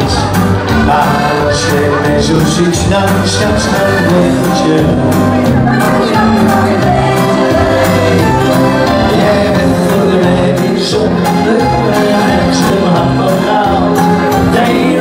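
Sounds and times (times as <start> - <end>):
backing music with bass: 0.0 - 15.0
man singing into microphone: 0.0 - 15.0.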